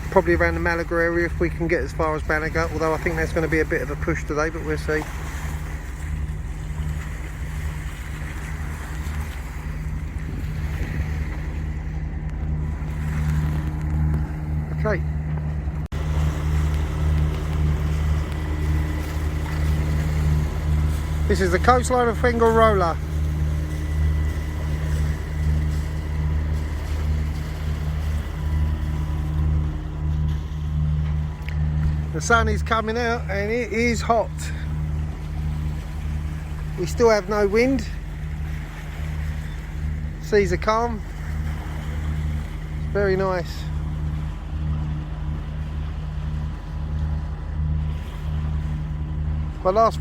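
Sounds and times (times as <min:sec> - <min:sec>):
diesel engines droning: 0:00.0 - 0:50.0
water hissing along hulls: 0:00.0 - 0:50.0.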